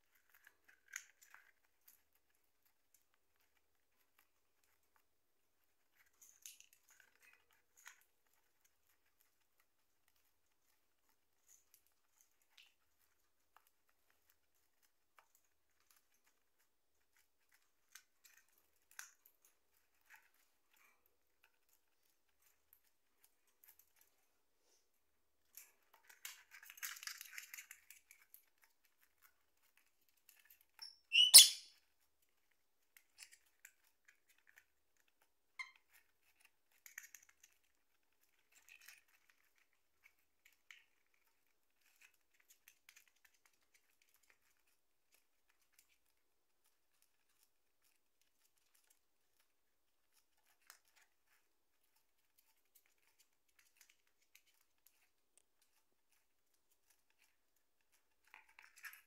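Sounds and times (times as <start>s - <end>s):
bird nibbling cardboard: 0.0s - 24.8s, 25.4s - 59.0s
faint pecks and clicks: 0.0s - 59.0s.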